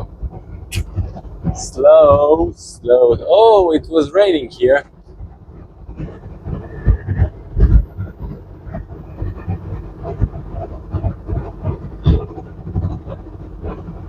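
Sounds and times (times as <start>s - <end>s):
road and drivetrain noise: 0.0s - 14.0s.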